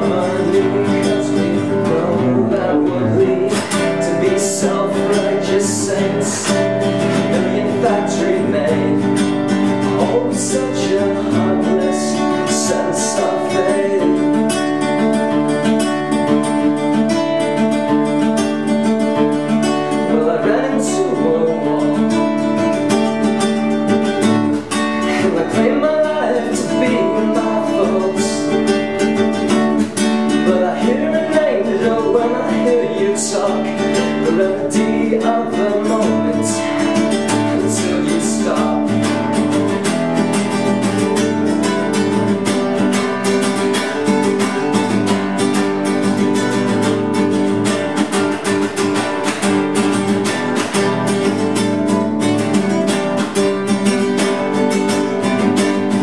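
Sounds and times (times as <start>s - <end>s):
acoustic guitar picking and strumming: 0.0s - 56.0s.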